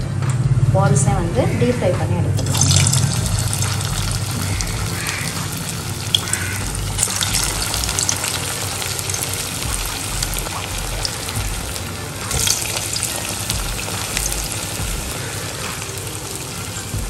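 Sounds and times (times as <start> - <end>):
food deep-frying in oil: 2.4 - 17.0
oil popping: 2.4 - 17.0.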